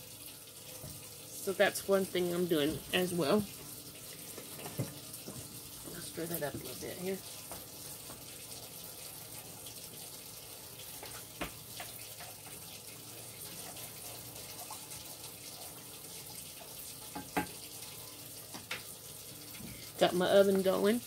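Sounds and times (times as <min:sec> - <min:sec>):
sink tap running: 0:00.0 - 0:21.0.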